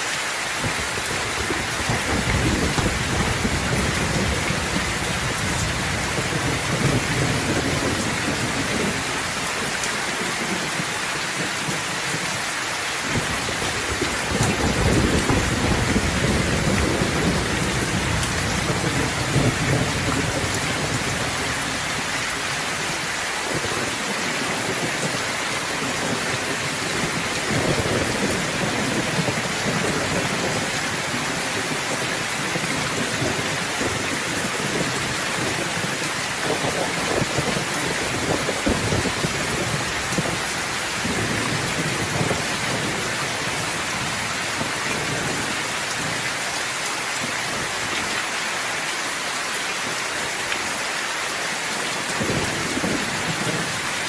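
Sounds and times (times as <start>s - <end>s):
heavy rain: 0.0s - 54.0s
low thunder rumbling: 0.6s - 12.4s, 13.0s - 46.3s, 52.1s - 54.0s.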